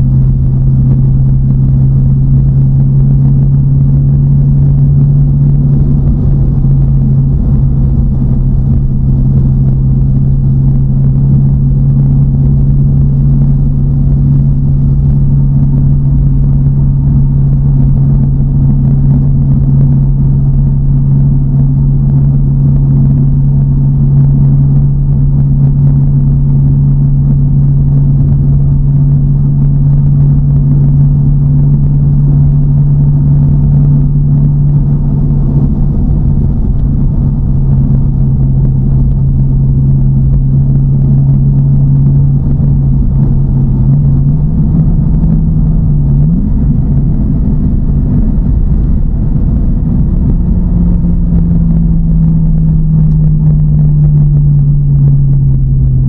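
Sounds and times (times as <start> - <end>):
car engine drone: 0.0 - 56.0
low road rumble: 0.0 - 56.0.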